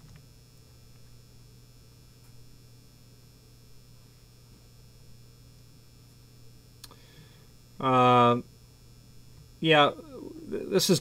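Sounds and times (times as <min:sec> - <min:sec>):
faint mains hum: 0:00.0 - 0:11.0.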